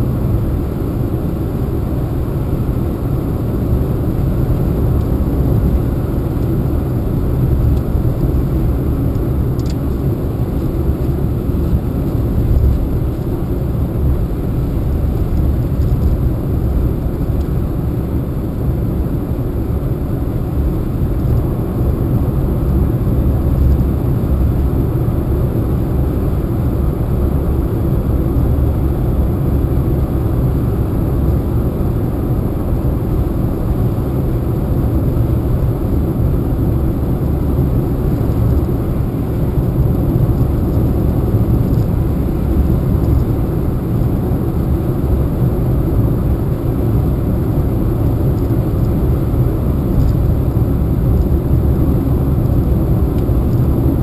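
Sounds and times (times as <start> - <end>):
car driving interior rumble: 0.0 - 54.0.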